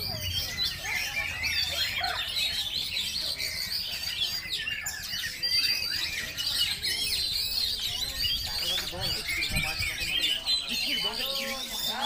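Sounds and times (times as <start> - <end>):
birds singing whistles and chirps: 0.0 - 12.0.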